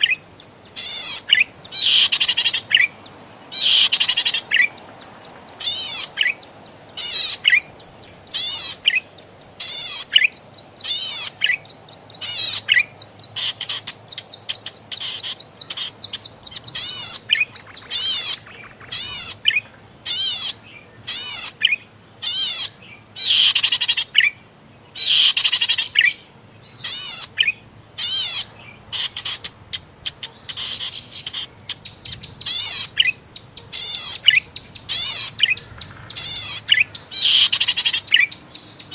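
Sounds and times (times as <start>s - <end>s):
small bird trilling song: 0.0s - 38.9s.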